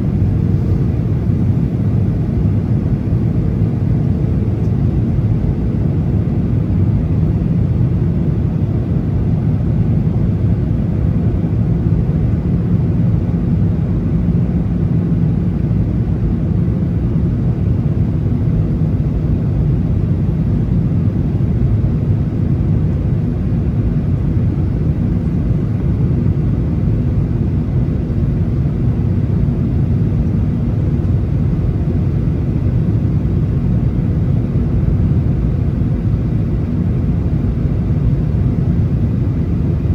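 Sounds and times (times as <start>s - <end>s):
airplane cabin engine and airflow rumble: 0.0s - 39.9s.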